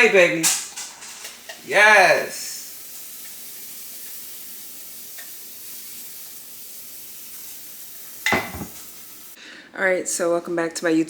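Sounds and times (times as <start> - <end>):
background hiss: 0.0 - 9.8.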